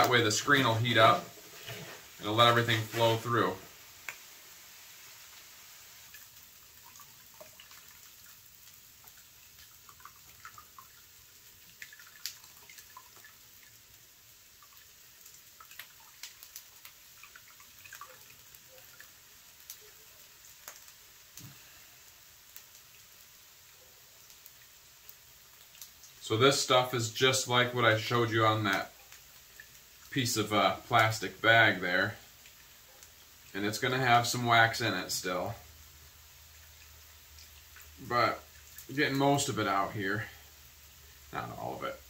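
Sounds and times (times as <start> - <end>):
wax dripping and trickling: 0.0 - 42.0.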